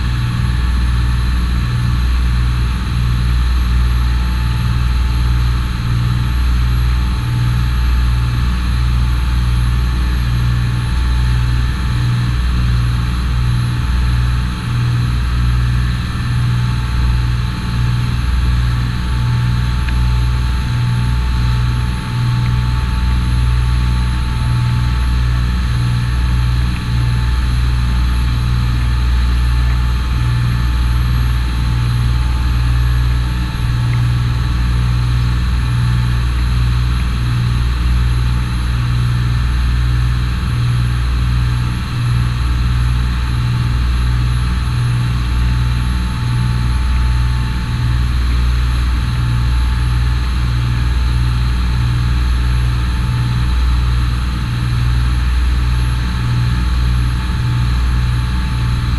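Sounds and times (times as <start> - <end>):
boat engine rumbling: 0.0 - 58.9.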